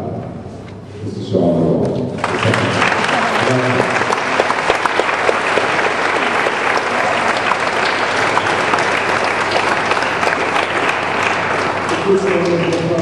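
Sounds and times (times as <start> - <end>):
audience applauding: 2.2 - 13.0.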